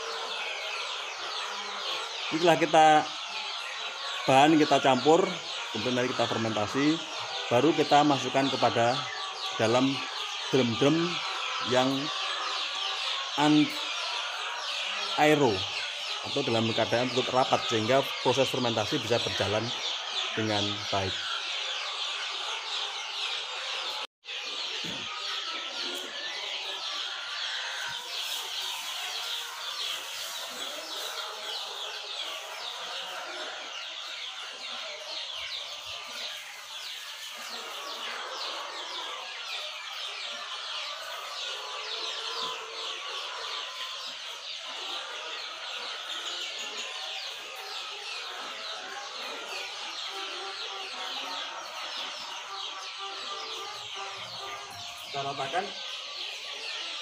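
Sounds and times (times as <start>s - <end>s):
chicks chirping and peeping: 0.0s - 57.0s.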